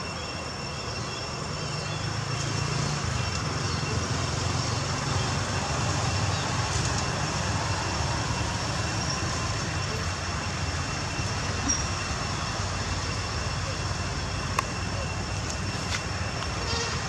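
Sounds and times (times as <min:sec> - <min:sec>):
low rumble of distant traffic: 0:00.0 - 0:17.0.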